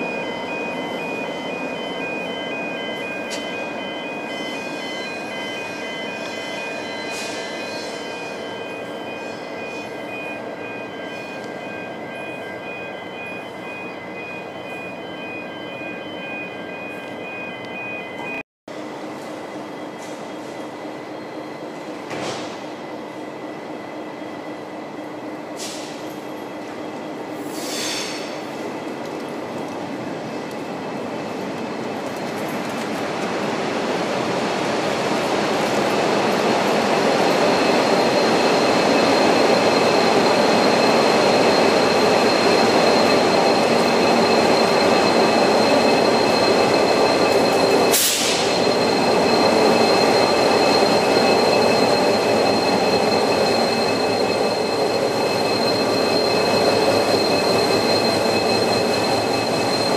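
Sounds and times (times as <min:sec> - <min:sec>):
locomotive passing through station: 0:00.0 - 0:59.9.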